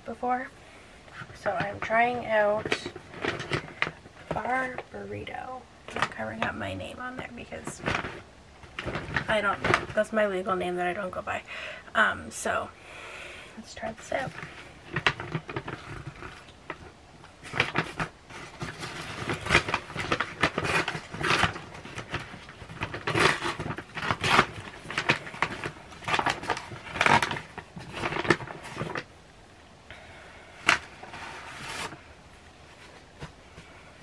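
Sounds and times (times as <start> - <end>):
food packaging rustling and crinkling: 1.0 - 11.4, 13.6 - 29.2, 29.9 - 34.0.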